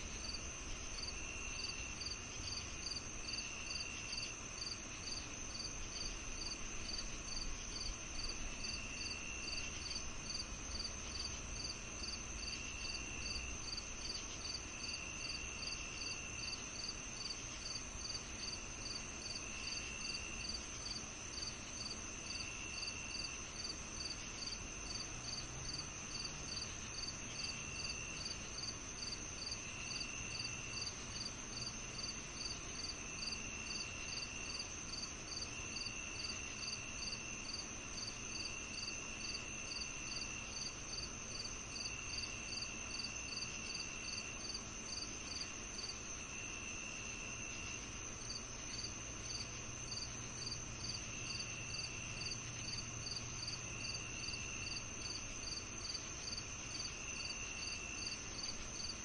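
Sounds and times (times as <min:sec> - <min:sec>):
cricket chirping: 0:00.0 - 0:59.0
high-pitched insect trill: 0:00.2 - 0:59.0.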